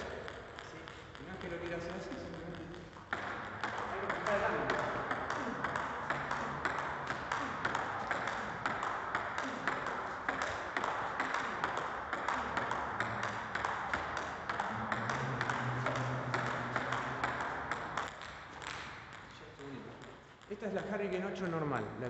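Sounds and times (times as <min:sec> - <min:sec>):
table tennis ball ticks: 0:00.0 - 0:21.7.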